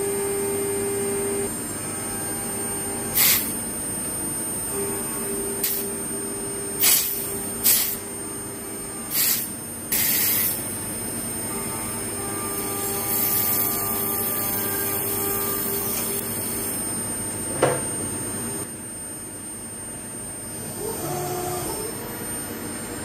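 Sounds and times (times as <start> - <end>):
milling machine whining: 0.0 - 18.8, 19.5 - 23.0.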